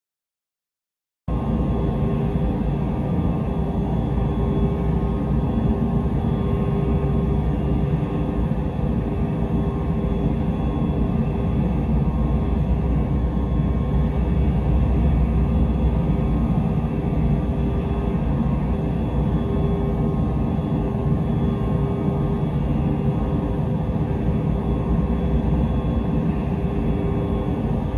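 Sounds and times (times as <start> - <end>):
faint constant hum: 1.3 - 27.9
low rumbling drone: 1.3 - 27.9.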